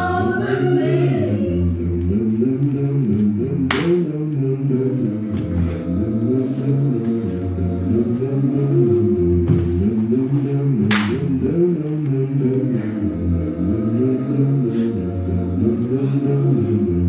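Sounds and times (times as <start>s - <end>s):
low voices singing a capella: 0.0s - 17.0s.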